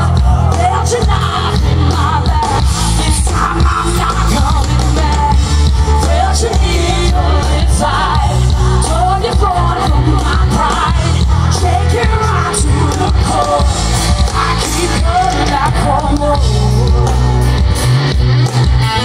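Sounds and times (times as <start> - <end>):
woman singing lead: 0.0 - 18.0
bass guitar: 0.0 - 19.0
drums: 0.0 - 19.0
electric guitar: 0.0 - 19.0.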